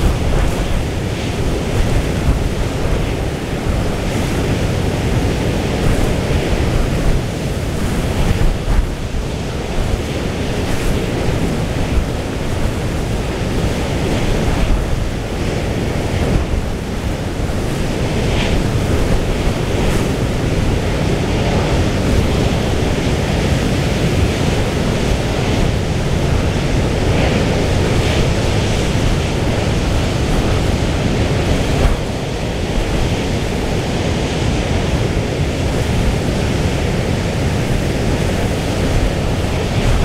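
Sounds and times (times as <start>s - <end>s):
rough sea rushing: 0.0s - 40.0s
storm wind buffeting microphone: 0.0s - 40.0s.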